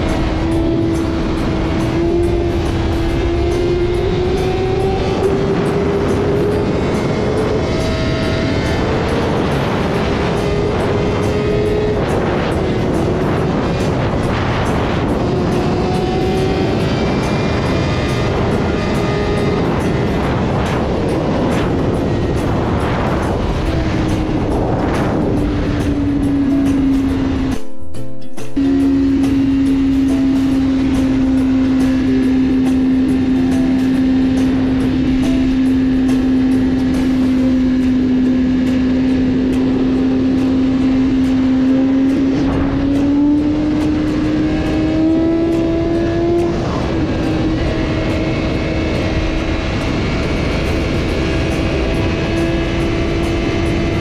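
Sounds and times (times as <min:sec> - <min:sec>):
motorcycle engine at high revs: 0:00.0 - 0:27.6, 0:28.6 - 0:54.0
wind rush: 0:00.0 - 0:27.7, 0:28.5 - 0:54.0.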